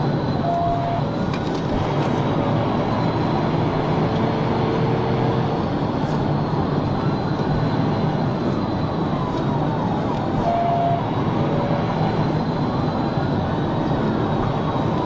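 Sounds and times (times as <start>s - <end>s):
car engine: 0.0s - 15.0s.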